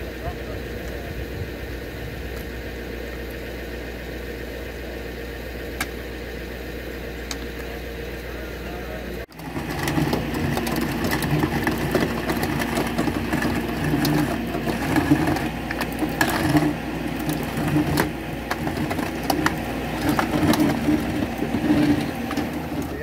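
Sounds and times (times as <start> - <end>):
winch mechanical drone: 0.0 - 23.0.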